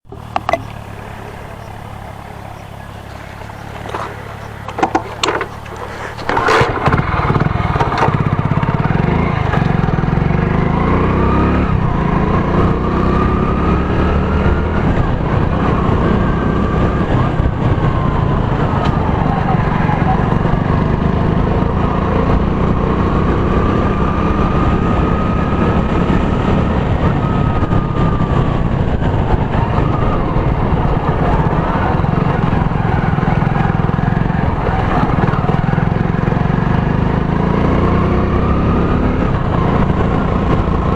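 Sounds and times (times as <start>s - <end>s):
motorcycle engine rumble: 0.0s - 40.9s.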